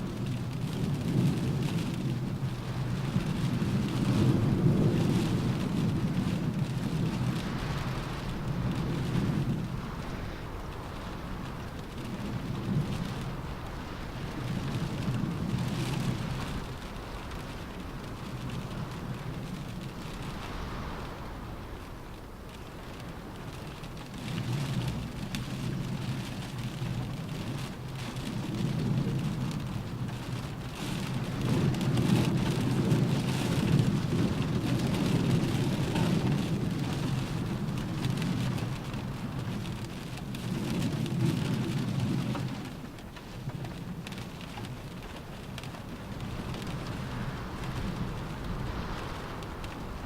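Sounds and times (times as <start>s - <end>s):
rain on a car roof: 0.0s - 50.0s.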